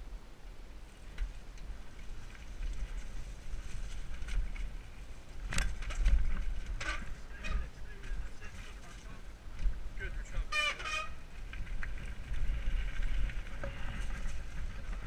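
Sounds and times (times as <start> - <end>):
wind and tyres rumbling: 0.0 - 15.0
bike rattling and knocking: 2.0 - 9.9, 10.5 - 15.0.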